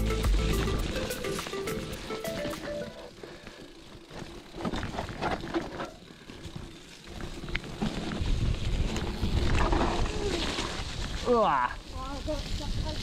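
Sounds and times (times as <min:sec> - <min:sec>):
bike chain and frame rattling: 0:00.0 - 0:13.0
bike tyres rolling through mud: 0:00.0 - 0:13.0.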